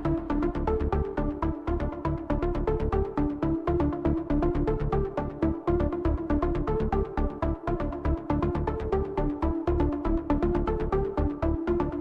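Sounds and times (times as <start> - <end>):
electronic music with synth melody: 0.0 - 12.0.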